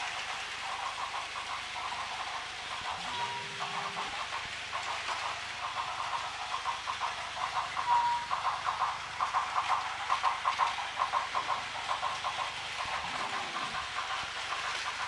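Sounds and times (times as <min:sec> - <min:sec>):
toy trains whirring and clicking: 0:00.0 - 0:15.0.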